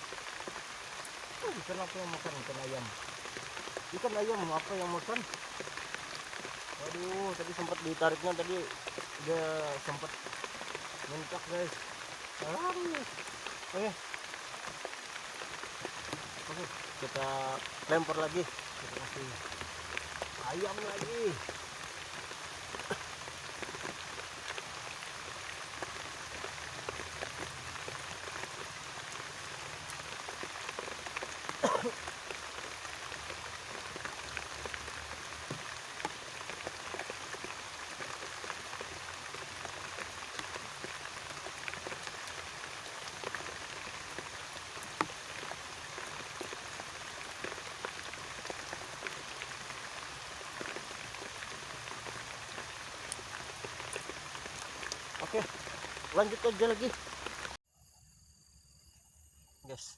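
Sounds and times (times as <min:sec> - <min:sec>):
rain falling: 0:00.0 - 0:57.6.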